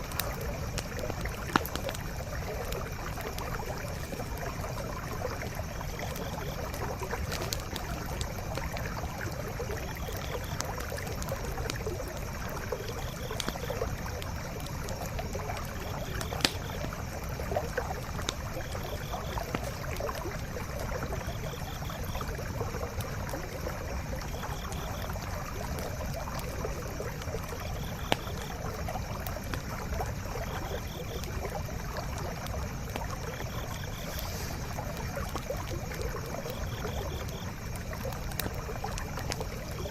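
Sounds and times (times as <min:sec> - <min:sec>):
campfire crackling and popping: 0:00.0 - 0:39.9
forest stream flowing: 0:00.0 - 0:39.9.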